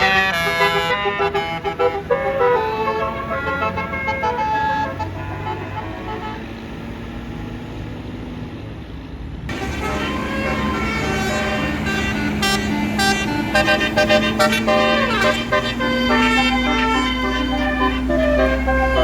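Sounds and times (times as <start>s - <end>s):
multi-tone bus air horn tune: 0.0s - 6.6s, 9.5s - 19.0s
bus engine running: 0.0s - 19.0s.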